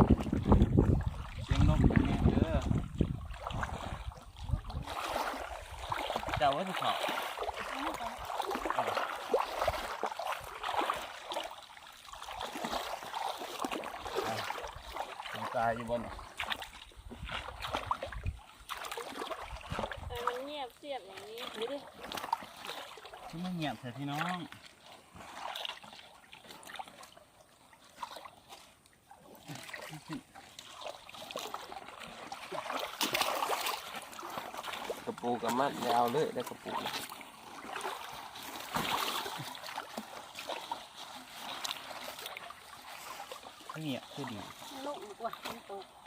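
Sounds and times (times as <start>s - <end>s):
shallow water sloshing and splashing: 0.0s - 46.0s.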